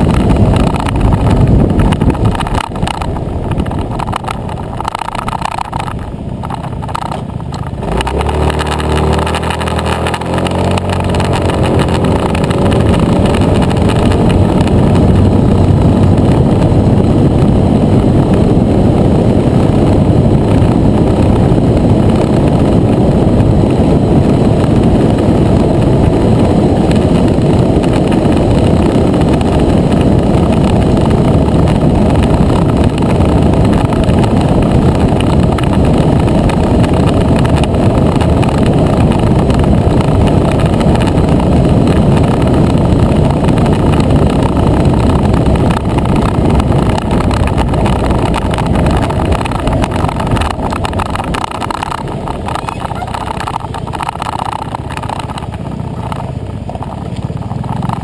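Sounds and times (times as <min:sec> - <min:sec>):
scooter engine droning: 0:00.0 - 0:58.0
wind rushing on microphone: 0:00.0 - 0:58.0.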